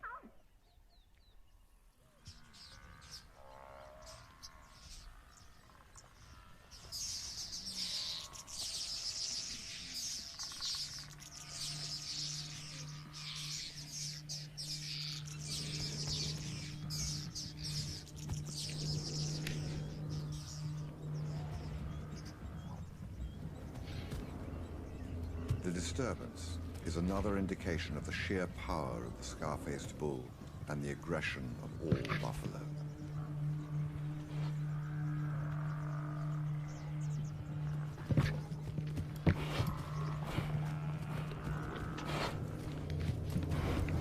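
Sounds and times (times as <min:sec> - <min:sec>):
birds chirping: 0:00.0 - 0:44.0
low steady hum: 0:00.0 - 0:44.0.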